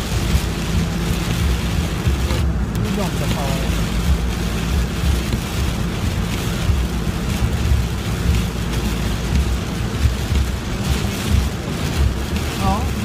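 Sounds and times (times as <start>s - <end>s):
heavy rain on a car: 0.0s - 13.0s
tyres on wet road: 0.0s - 13.0s.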